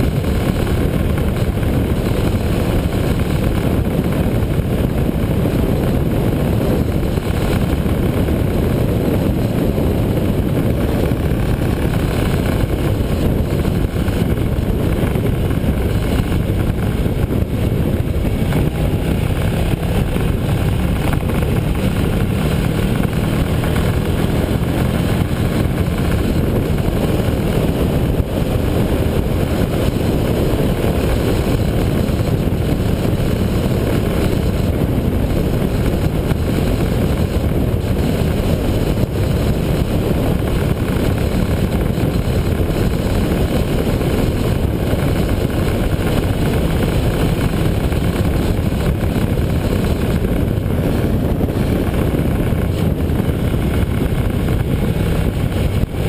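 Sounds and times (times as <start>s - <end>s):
motorcycle engine drone: 0.0s - 56.0s
wind rush on microphone: 0.0s - 56.0s.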